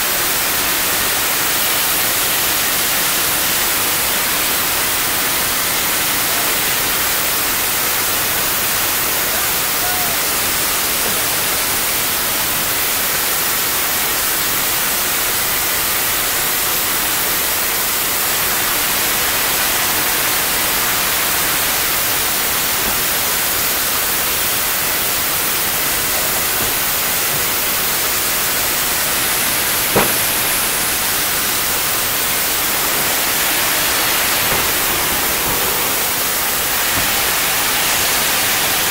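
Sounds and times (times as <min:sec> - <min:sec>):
hiss of escaping steam: 0:00.0 - 0:38.9.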